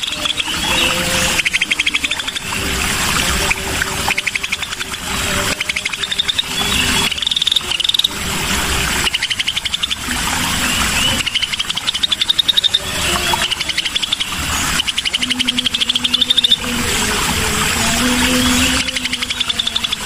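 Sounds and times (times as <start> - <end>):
bird buzzy trills: 0.0 - 20.0.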